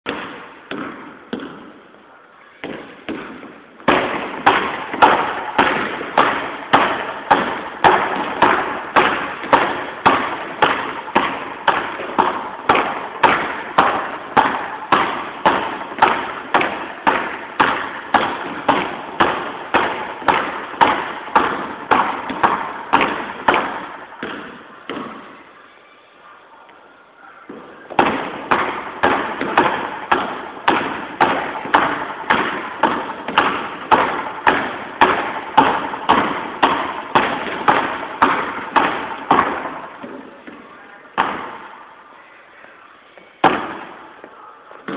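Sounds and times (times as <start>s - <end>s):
basketballs bouncing on gym floor: 0.0s - 1.9s, 2.6s - 25.4s, 27.5s - 41.9s, 43.3s - 44.9s.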